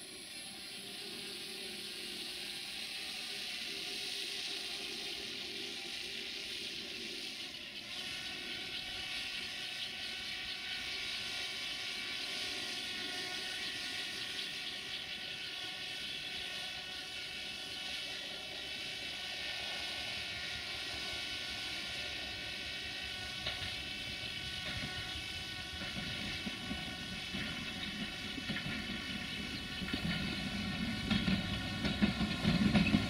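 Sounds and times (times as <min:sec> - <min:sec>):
drone rotors humming: 0:00.0 - 0:33.0.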